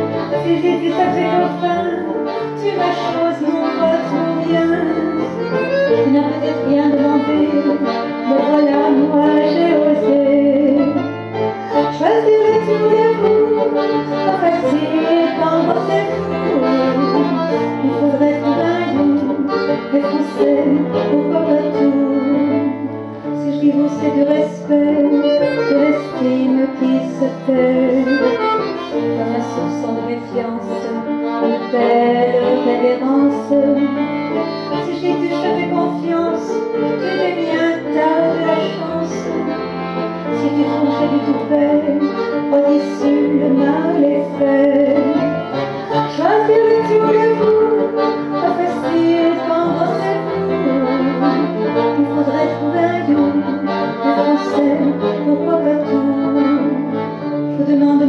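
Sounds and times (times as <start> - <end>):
live band playing chanson music: 1.1 - 23.3, 24.6 - 58.0.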